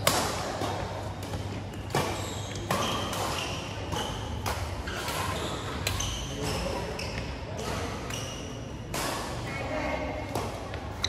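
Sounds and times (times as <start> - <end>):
rackets hitting shuttlecock: 0.0 - 11.0.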